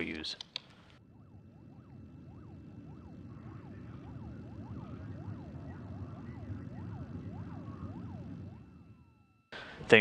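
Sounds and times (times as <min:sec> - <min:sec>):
faint high whine: 0:00.0 - 0:10.0
steady low rumble: 0:00.8 - 0:10.0
warbling siren-like electronic tone: 0:01.0 - 0:10.0.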